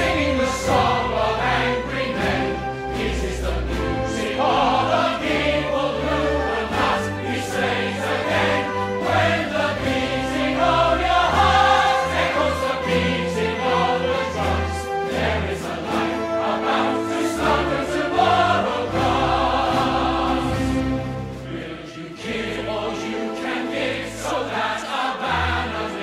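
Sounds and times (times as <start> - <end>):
choir singing: 0.0 - 26.0.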